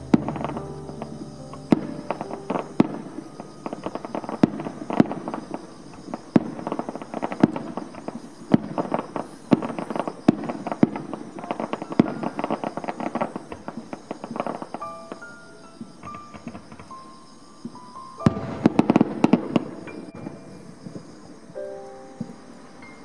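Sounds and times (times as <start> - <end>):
fireworks bangs: 0.0 - 21.6
fireworks crackle: 0.0 - 23.0.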